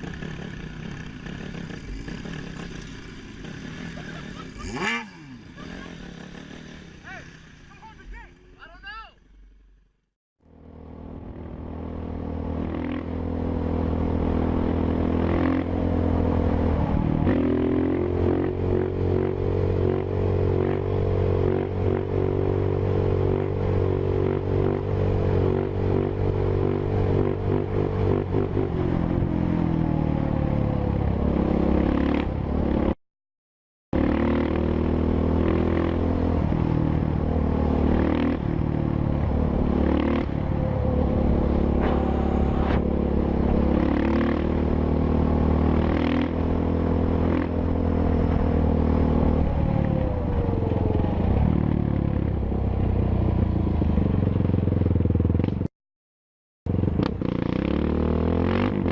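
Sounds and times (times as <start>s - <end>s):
motorcycle engine revving: 0.0s - 7.9s, 10.4s - 33.0s, 34.0s - 55.7s, 56.7s - 58.9s.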